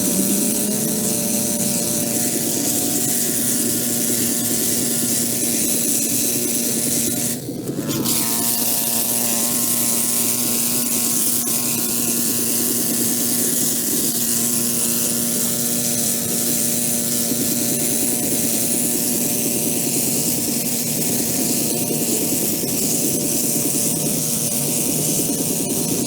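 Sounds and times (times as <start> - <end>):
small motor droning: 0.0 - 26.0.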